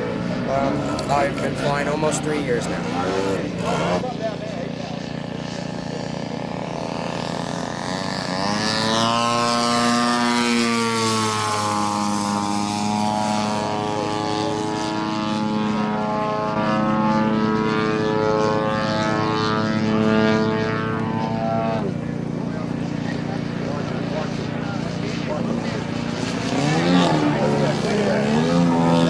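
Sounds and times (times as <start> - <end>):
model airplane propeller engine: 0.0 - 29.0.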